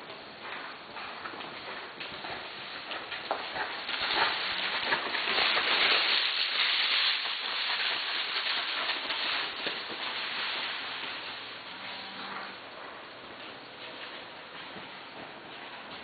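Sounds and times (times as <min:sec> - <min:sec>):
muffled hoofbeats in dirt: 0:00.0 - 0:16.0.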